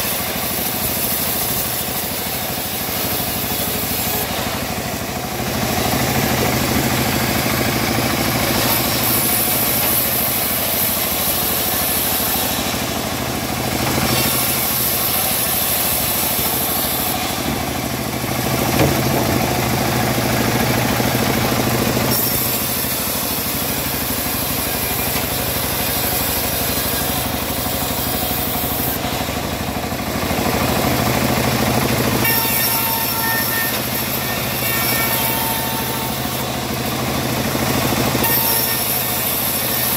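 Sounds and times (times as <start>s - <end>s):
saw blade cutting hiss: 0.0s - 29.7s, 32.1s - 39.9s
bandsaw mill running: 0.0s - 39.9s.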